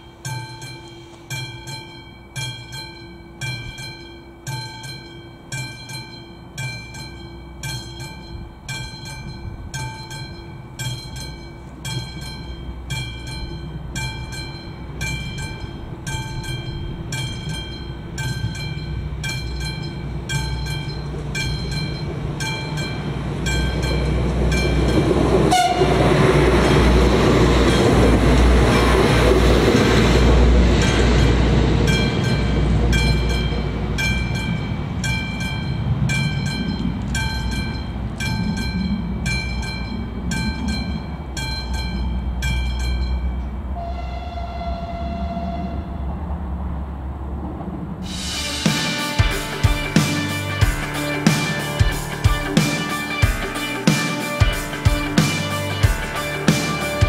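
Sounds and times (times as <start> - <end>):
level-crossing warning bell: 0.0 - 46.2, 48.1 - 57.0
diesel railcar passing: 0.0 - 57.0.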